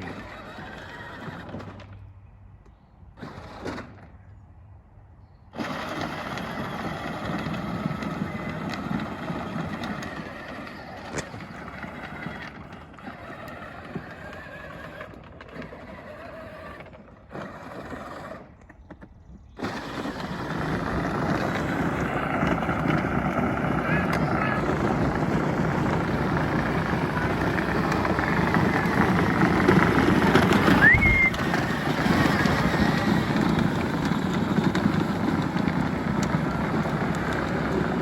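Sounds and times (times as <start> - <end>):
truck engine and road noise: 0.0 - 38.0.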